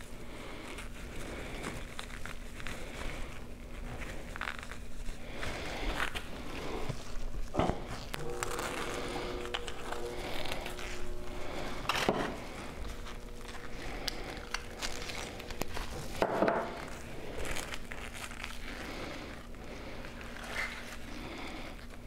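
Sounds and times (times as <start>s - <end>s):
rustling and crinkling handling: 0.0s - 22.0s.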